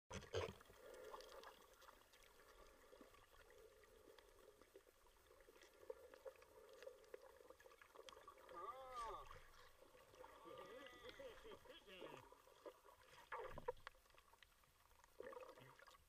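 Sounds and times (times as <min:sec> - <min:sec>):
faint underwater hum: 0:00.1 - 0:16.0.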